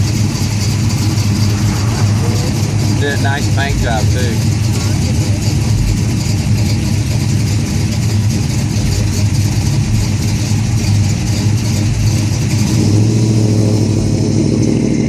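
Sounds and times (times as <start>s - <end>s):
car engines cruising past: 0.0s - 15.0s.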